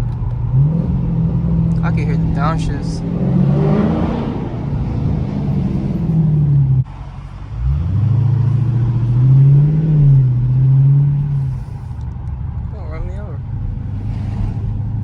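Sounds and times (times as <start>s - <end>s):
car engine under throttle: 0.0s - 15.0s.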